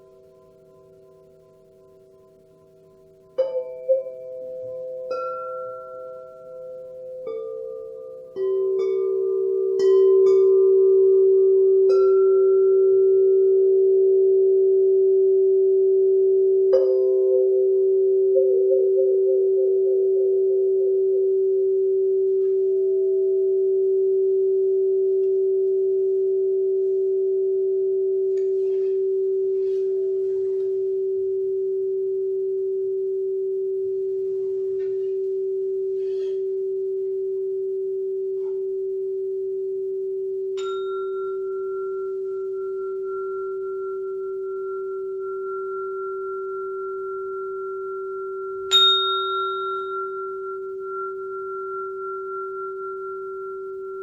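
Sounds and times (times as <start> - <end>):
low singing bowl tone ringing: 0.0 - 54.0.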